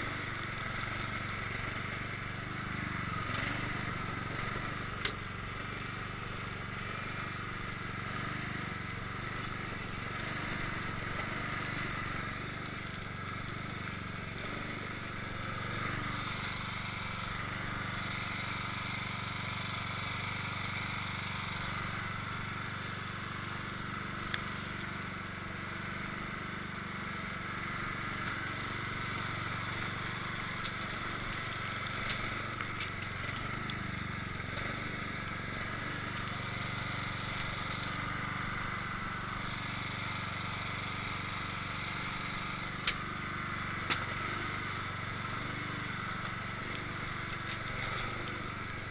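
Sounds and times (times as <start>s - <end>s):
blade pushing snow: 0.0s - 48.9s
lawn tractor engine under load: 0.0s - 48.9s.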